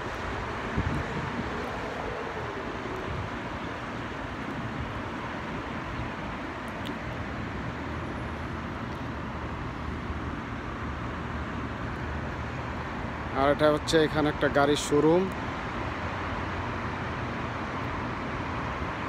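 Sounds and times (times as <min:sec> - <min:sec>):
city road traffic: 0:00.0 - 0:19.0.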